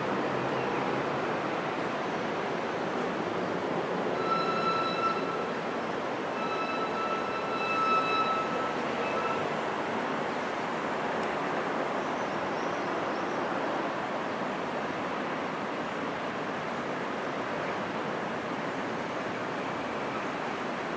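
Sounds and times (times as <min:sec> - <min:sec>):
distant city traffic din: 0:00.0 - 0:20.9.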